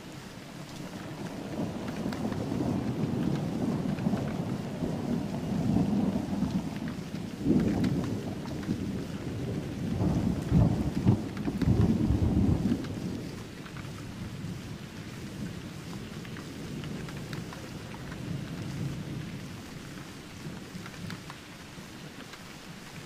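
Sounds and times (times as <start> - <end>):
rain falling: 0.0 - 23.0
thunder rumble: 0.5 - 21.4.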